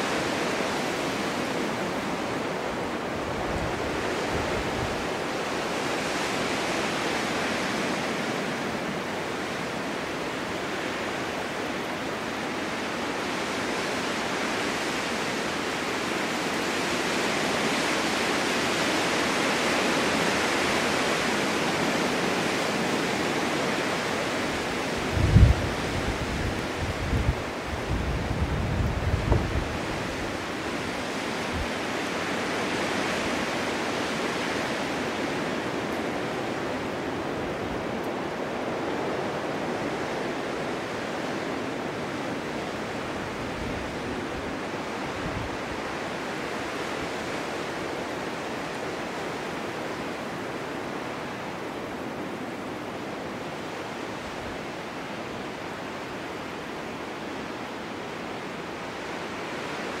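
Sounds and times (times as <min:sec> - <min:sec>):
snowstorm wind blowing: 0:00.0 - 1:00.0.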